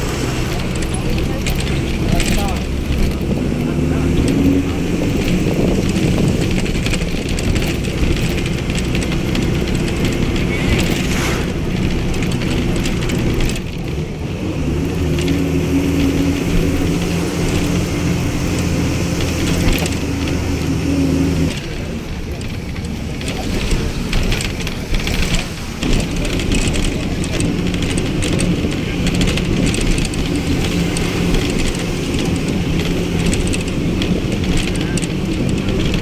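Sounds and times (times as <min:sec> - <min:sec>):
low engine drone: 0:00.0 - 0:36.0
road and wind noise: 0:00.0 - 0:36.0.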